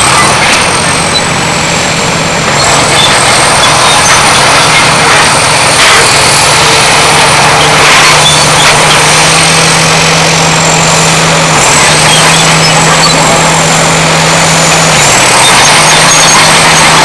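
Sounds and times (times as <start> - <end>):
diesel engine working under load: 0.0 - 17.0.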